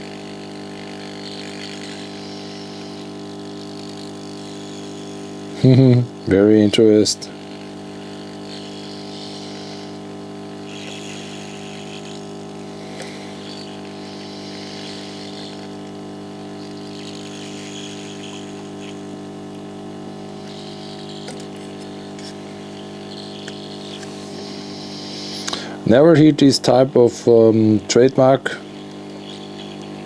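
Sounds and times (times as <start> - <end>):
airy hiss of hot air: 0.0 - 5.6, 7.2 - 26.0
fan hum: 0.0 - 30.0.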